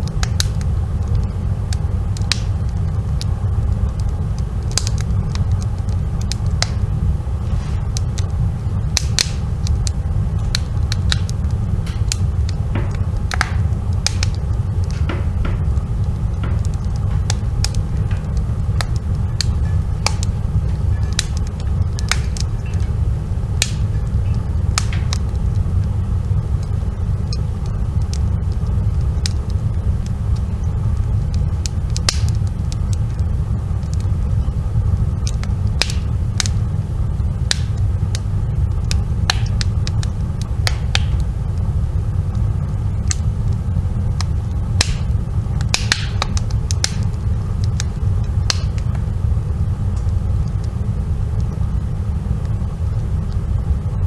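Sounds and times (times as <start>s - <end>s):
burning wood crackling: 0.0s - 54.0s
low fire rumble: 0.0s - 54.0s.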